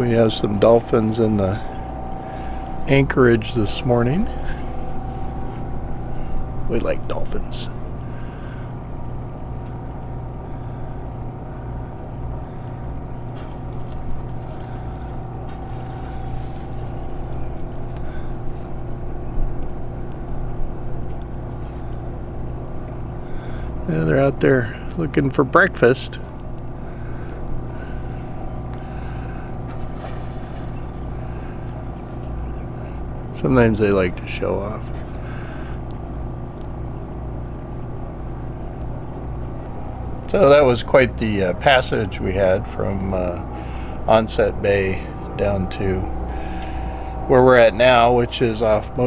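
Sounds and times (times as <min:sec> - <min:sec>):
boat motor humming: 0:00.0 - 0:49.0.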